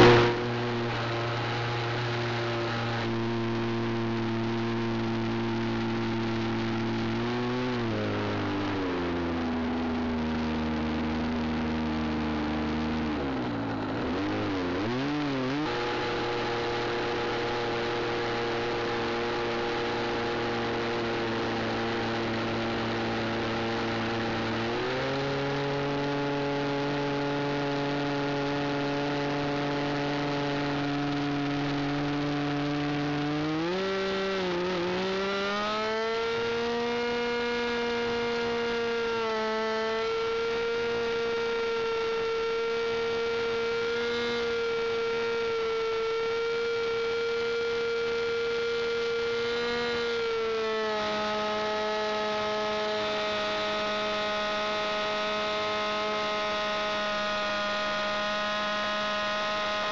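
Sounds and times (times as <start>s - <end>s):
model plane engine buzzing: 0.0s - 59.9s.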